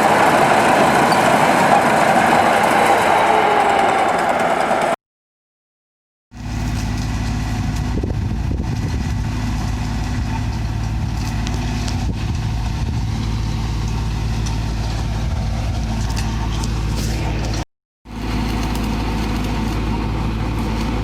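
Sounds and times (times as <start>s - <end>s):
large engine droning: 0.0s - 5.0s, 6.3s - 21.0s.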